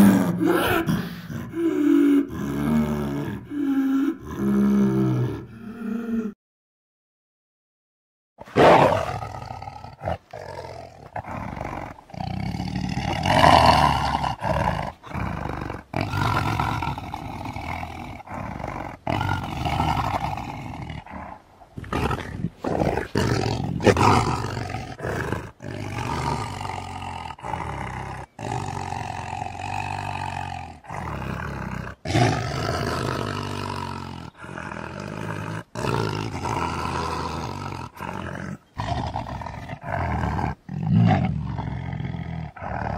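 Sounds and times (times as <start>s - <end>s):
tiger roaring: 0.0s - 6.2s, 8.4s - 42.9s.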